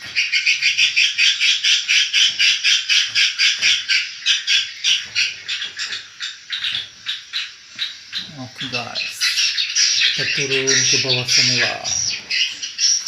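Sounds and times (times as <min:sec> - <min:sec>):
swiftlets chirping: 0:00.0 - 0:13.0.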